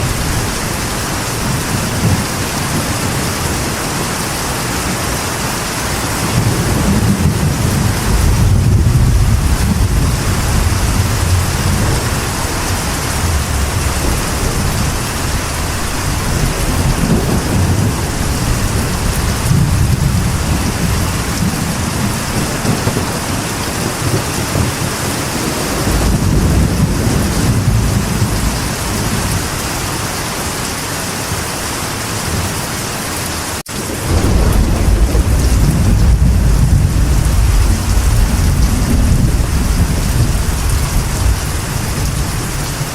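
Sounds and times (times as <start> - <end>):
thunder rumbling: 0.0 - 30.6, 33.6 - 42.9
rain on a metal roof: 0.0 - 42.9.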